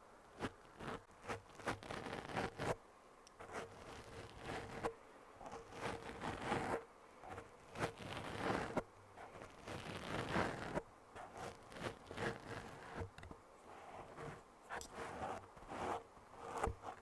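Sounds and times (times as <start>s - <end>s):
scratchy rustling noise: 0.0s - 2.8s, 3.4s - 17.0s.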